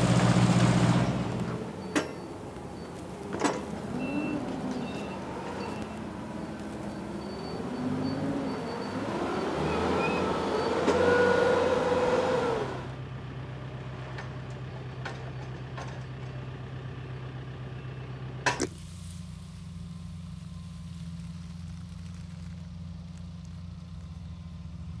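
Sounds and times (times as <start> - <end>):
engine idling: 0.0 - 10.0, 11.9 - 25.0.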